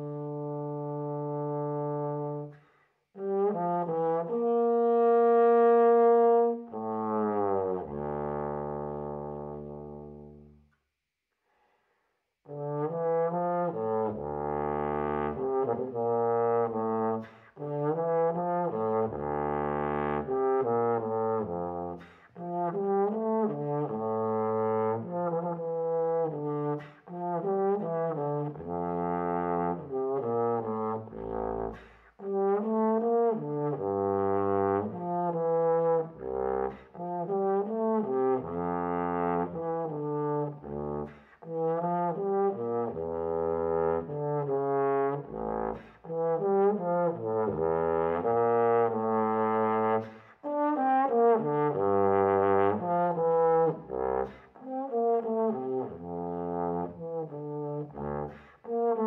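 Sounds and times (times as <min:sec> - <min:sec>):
bass trombone solo: 0:00.0 - 0:02.6, 0:03.2 - 0:10.5, 0:12.5 - 0:59.0.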